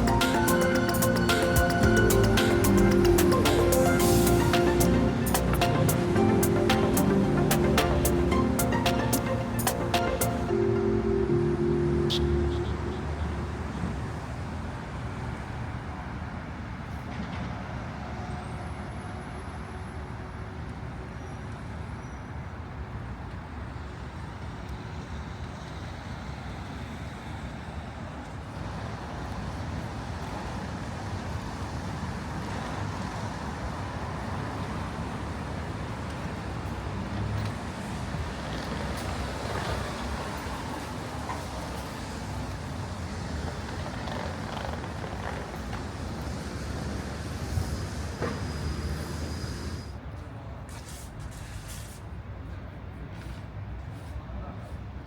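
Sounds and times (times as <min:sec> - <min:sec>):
traffic rumble: 0:00.0 - 0:18.1, 0:24.5 - 0:55.0.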